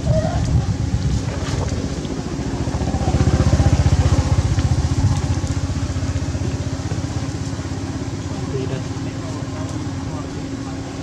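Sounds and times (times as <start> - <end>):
small engine running: 0.7 - 11.0.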